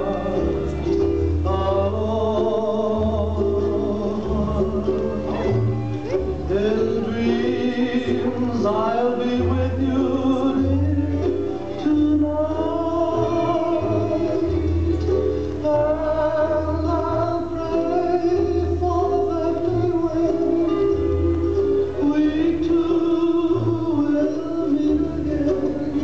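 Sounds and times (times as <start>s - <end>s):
song with sung melody: 0.0s - 26.0s.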